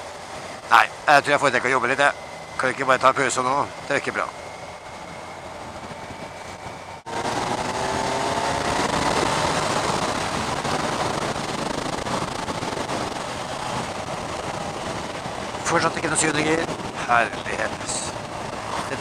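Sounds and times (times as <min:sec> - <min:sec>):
motorcycle engine accelerating: 0:00.0 - 0:19.0
wind rush: 0:00.0 - 0:19.0.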